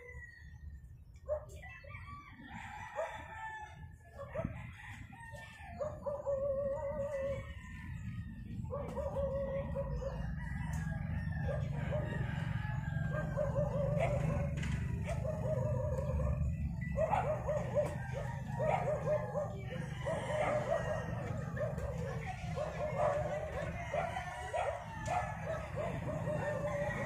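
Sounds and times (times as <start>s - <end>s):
rooster crowing: 0.0s - 0.8s, 1.8s - 27.0s.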